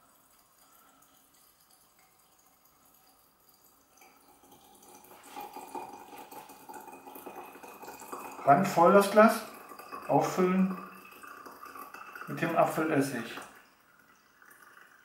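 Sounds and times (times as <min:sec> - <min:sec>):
liquid pouring into glass jar: 0:00.0 - 0:15.0.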